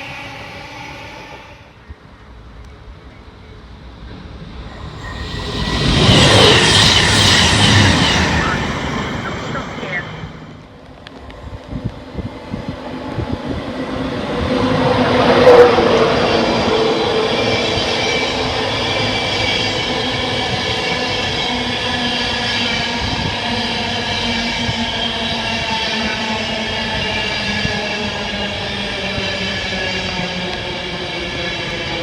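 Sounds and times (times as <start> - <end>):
train running: 0.0 - 32.0.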